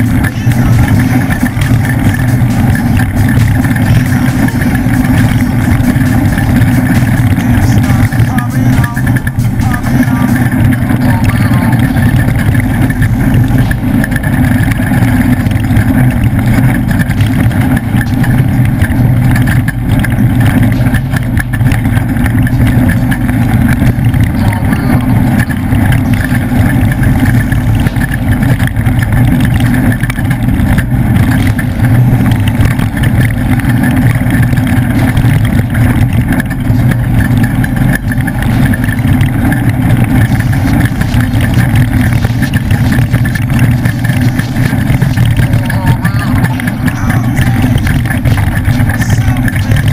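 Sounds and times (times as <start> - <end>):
driving noise: 0.0 - 49.9
truck engine running hard: 0.0 - 49.9.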